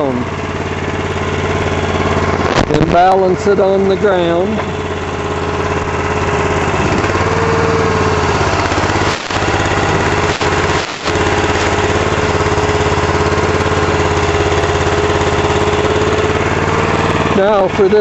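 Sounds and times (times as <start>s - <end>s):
small engine running: 0.0s - 18.0s
steady whine: 0.0s - 18.0s.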